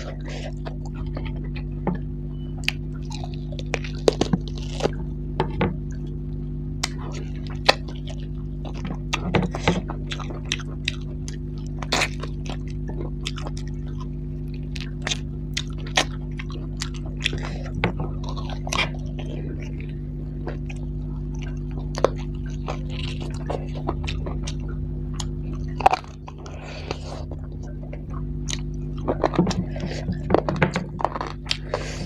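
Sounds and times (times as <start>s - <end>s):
chewing with wet mouth smacks: 0.0s - 6.2s, 6.8s - 32.0s
steady low hum: 0.0s - 32.0s.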